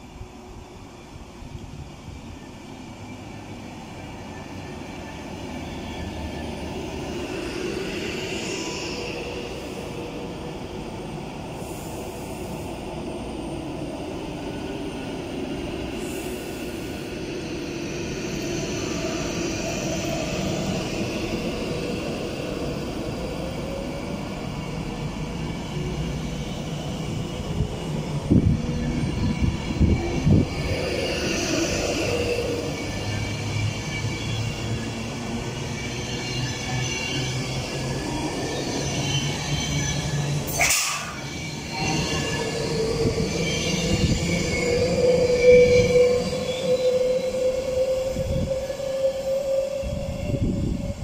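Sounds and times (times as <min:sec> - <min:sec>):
electric train passing: 0:00.0 - 0:51.0.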